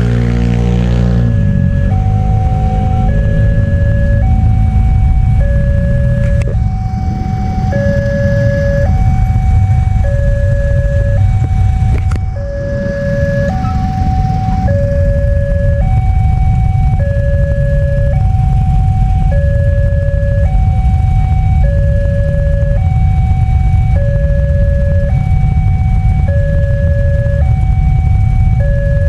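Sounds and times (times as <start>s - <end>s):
steady low rumble: 0.0s - 29.0s
two-tone crossing alarm: 0.0s - 29.0s.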